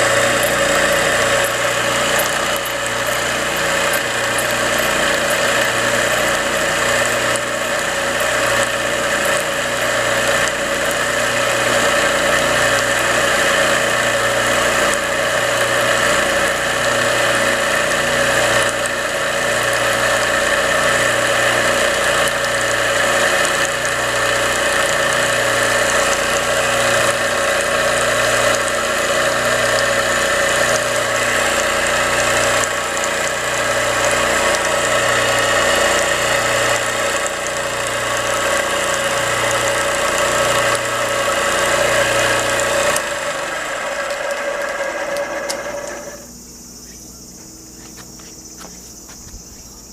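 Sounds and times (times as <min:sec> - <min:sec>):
sprayer pump humming and pulsing: 0:00.0 - 0:49.9.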